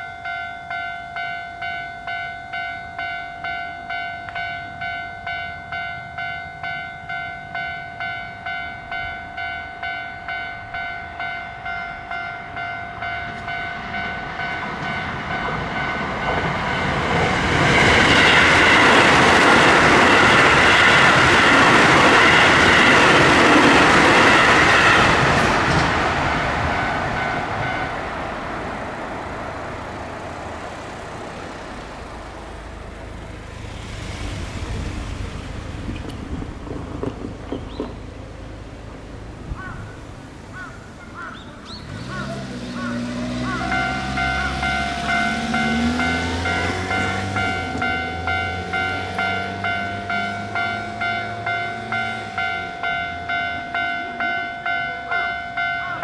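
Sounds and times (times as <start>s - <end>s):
crossing alarm bell dinging: 0.0s - 34.1s, 40.9s - 56.0s
electric train rushing past: 0.0s - 56.0s.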